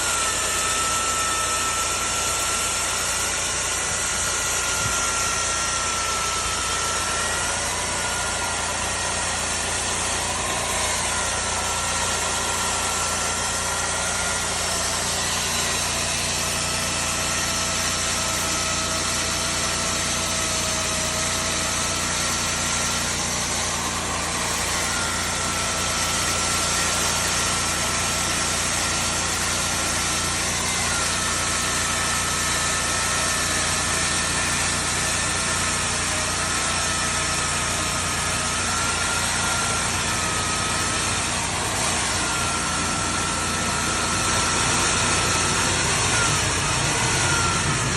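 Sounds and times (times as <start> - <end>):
core drill motor whining: 0.0 - 47.9.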